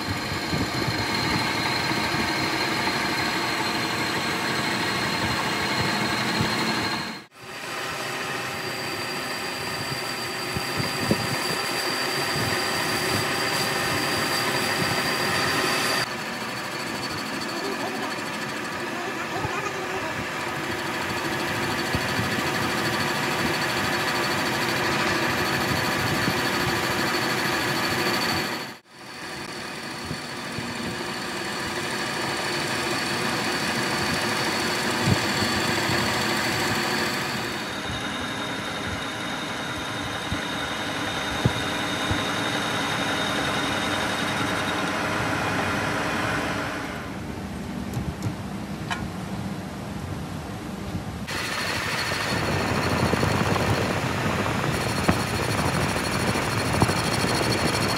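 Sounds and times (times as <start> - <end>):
metal lathe humming and whining: 0.0 - 47.2, 51.3 - 57.9.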